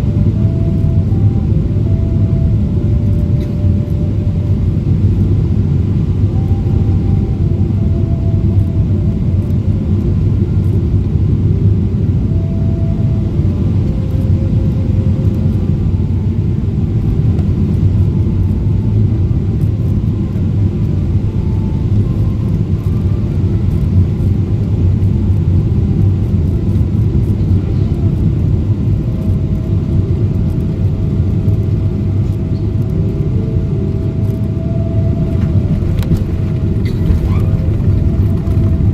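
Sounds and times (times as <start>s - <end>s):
airplane cabin rumble: 0.0s - 38.9s
faint engine tones: 0.0s - 38.9s.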